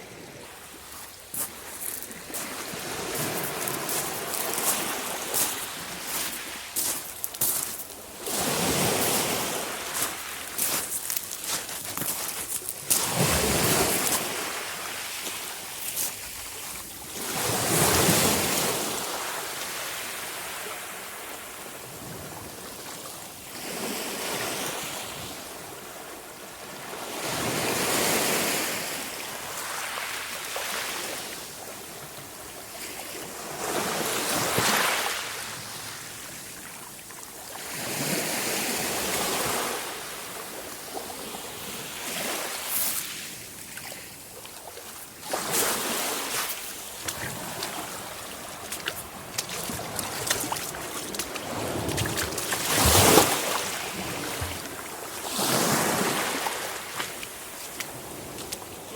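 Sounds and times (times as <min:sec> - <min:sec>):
sea waves breaking on shore: 0:00.0 - 0:36.4, 0:37.5 - 0:58.9.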